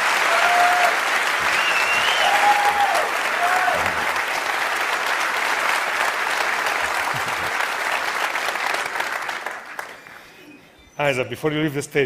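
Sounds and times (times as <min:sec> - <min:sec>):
large audience applauding: 0:00.0 - 0:10.6.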